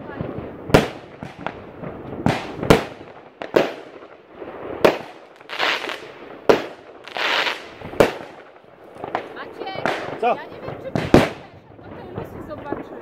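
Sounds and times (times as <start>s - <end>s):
fireworks hissing: 0.0s - 12.6s
fireworks bangs: 0.0s - 13.0s.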